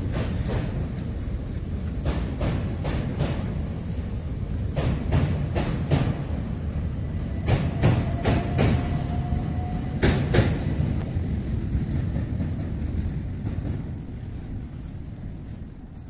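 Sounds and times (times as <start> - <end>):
train rumbling over bridge: 0.0 - 16.0.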